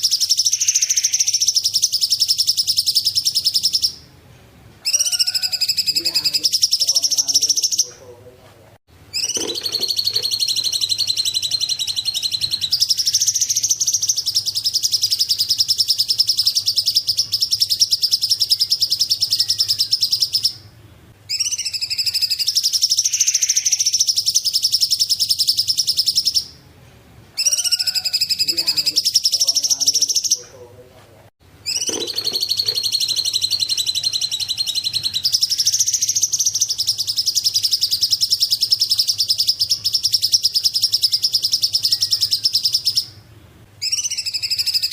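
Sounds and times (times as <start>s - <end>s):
songbird trilling: 0.0s - 4.0s, 4.8s - 8.0s, 9.1s - 20.6s, 21.3s - 26.6s, 27.4s - 30.5s, 31.6s - 43.2s, 43.8s - 44.9s.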